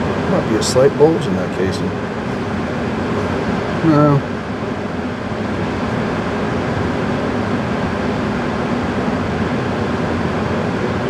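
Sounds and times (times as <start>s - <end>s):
ventilation system humming: 0.0s - 11.0s.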